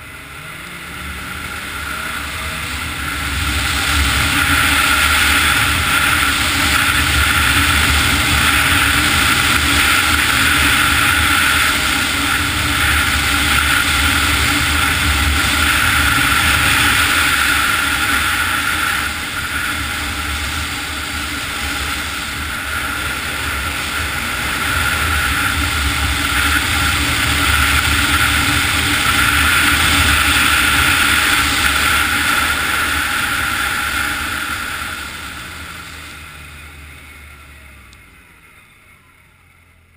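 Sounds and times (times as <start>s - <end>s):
snowmobile engine whine: 0.0s - 39.9s.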